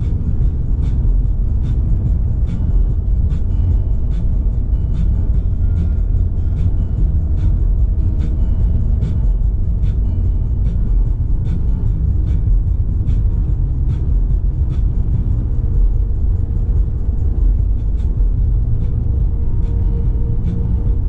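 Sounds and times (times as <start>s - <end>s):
car tyres and engine rumbling: 0.0s - 21.0s.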